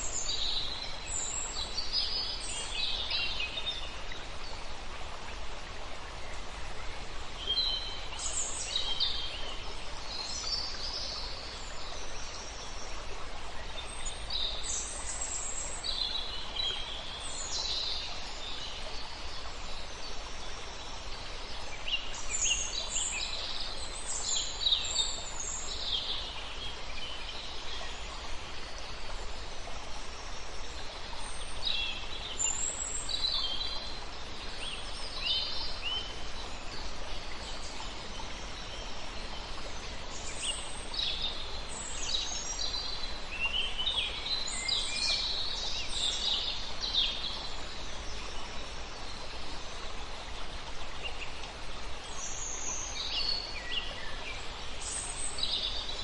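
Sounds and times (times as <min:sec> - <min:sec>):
river water flowing: 0:00.0 - 0:56.0
songbirds chirping: 0:00.0 - 0:56.0.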